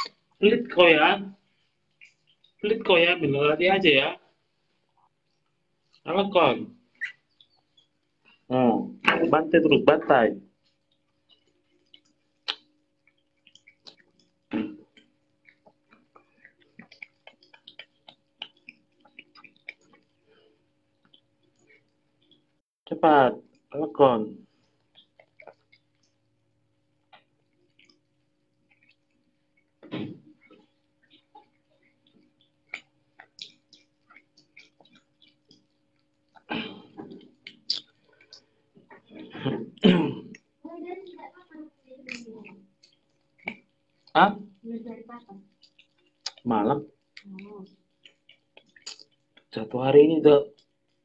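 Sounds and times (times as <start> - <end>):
otter chewing and crunching fish: 0.0 - 0.5, 1.3 - 3.2, 4.2 - 6.1, 6.7 - 22.6, 24.4 - 49.6, 50.4 - 51.0.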